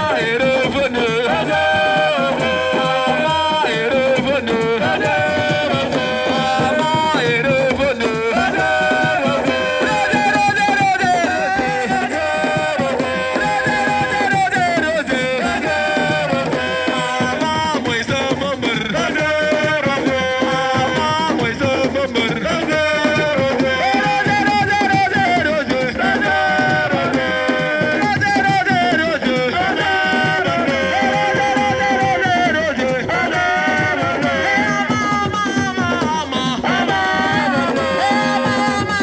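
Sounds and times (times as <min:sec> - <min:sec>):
fast busy drumming: 0:00.0 - 0:39.0.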